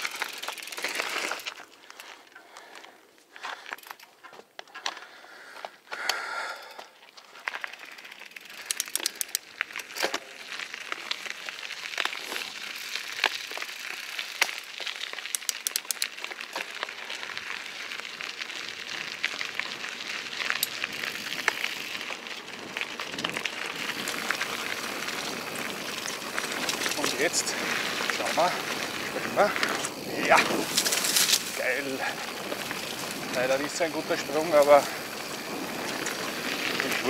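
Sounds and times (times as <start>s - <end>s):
bike clicks and rattles: 0.0s - 5.2s, 5.9s - 37.0s
bike tyres crunching on gravel: 0.0s - 37.0s.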